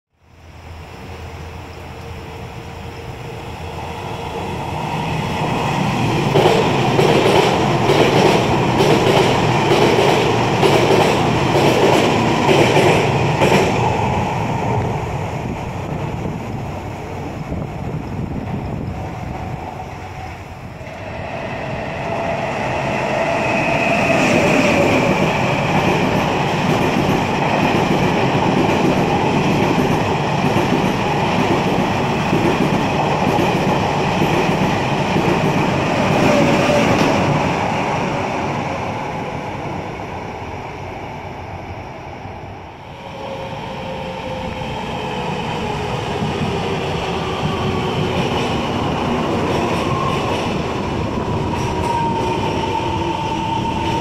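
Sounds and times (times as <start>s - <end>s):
train passing on rails: 0.2s - 54.0s.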